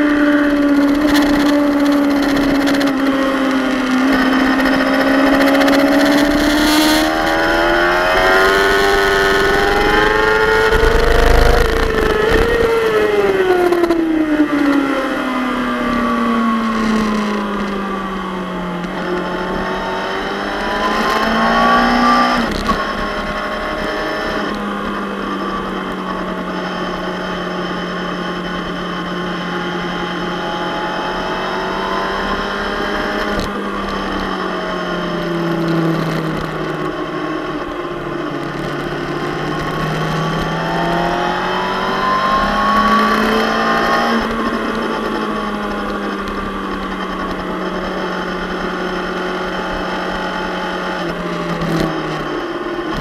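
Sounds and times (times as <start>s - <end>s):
motorcycle engine running hard: 0.0s - 53.0s.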